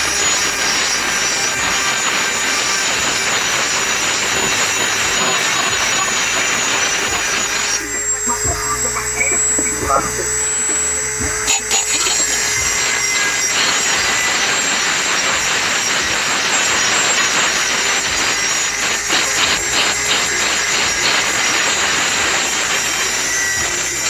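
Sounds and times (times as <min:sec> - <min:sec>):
power tool grinding steel: 0:00.0 - 0:24.0.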